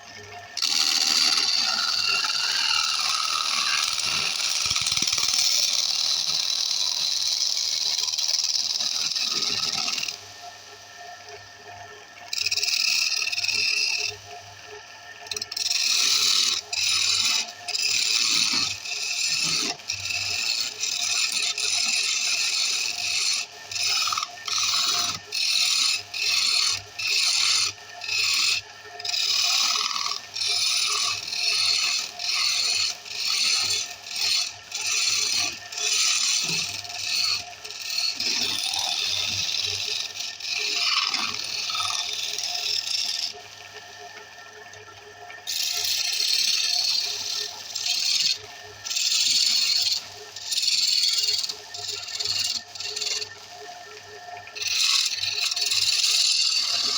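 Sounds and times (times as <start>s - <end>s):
wood scraping on a lathe: 0.6s - 10.4s, 12.3s - 14.2s, 15.3s - 43.4s, 45.5s - 53.8s, 54.4s - 56.9s.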